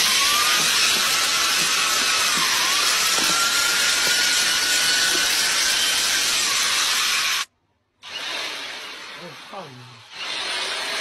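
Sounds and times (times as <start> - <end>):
cordless drill hissing: 0.0 - 11.0.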